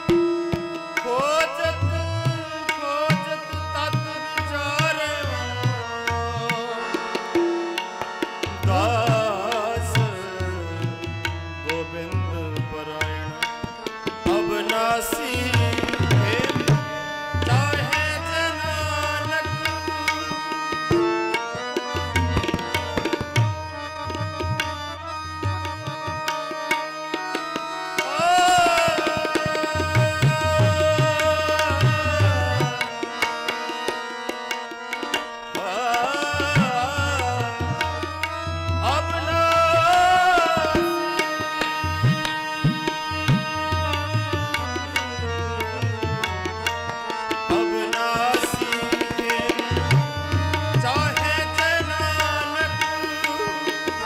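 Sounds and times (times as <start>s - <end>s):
harmonium drone: 0.0s - 54.0s
man singing: 0.0s - 54.0s
tabla playing a rhythm: 0.0s - 54.0s.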